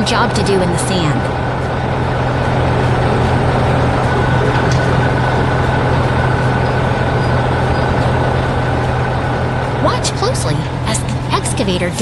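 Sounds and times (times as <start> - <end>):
construction machinery engine running: 0.0 - 12.0.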